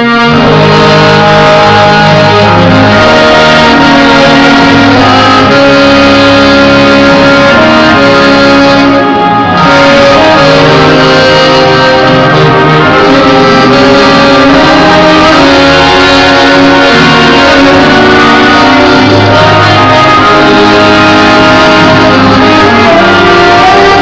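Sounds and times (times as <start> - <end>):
instrumental band music with guitar: 0.0 - 24.0.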